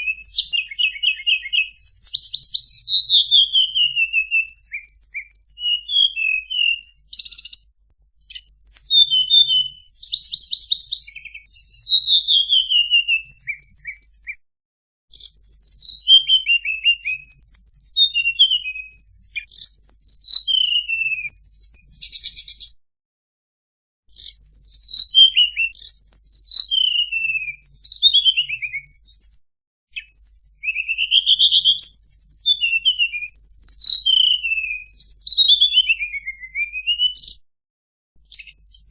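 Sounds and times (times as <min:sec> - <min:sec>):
bird whistled song: 0:00.0 - 0:14.4, 0:15.1 - 0:22.8, 0:24.1 - 0:37.4, 0:38.2 - 0:38.9.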